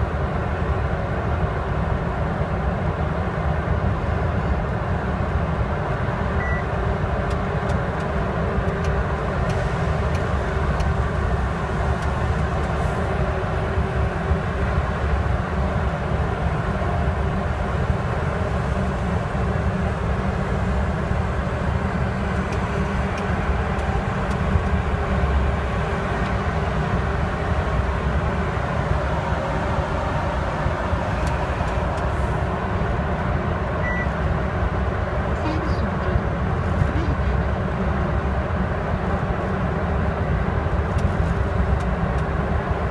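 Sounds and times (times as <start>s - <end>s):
diesel truck engine rumble: 0.0s - 42.9s
road noise: 0.0s - 42.9s.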